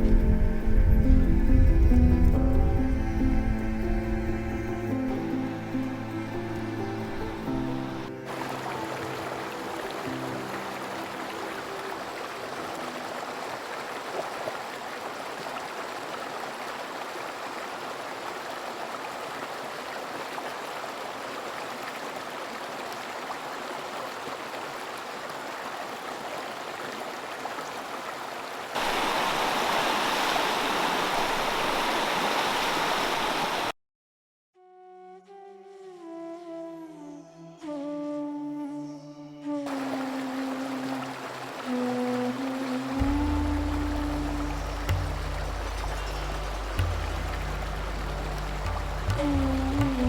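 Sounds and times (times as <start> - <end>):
close rush of water: 0.0 - 33.7, 39.7 - 50.0
creek water rushing: 0.0 - 33.7, 39.7 - 50.0.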